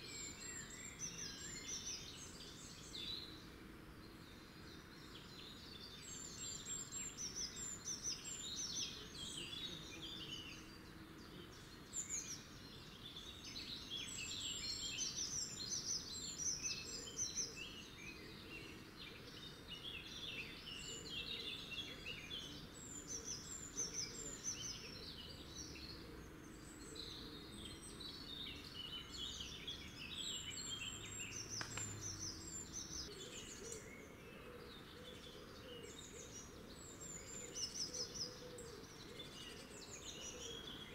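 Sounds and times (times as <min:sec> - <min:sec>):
faint outdoor background noise: 0:00.0 - 0:40.9
songbirds chirping: 0:00.0 - 0:40.9.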